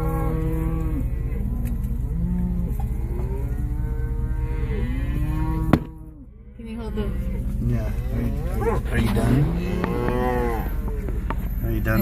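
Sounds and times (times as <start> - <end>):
cattle mooing: 0.0 - 12.0
engine idling: 0.0 - 12.0.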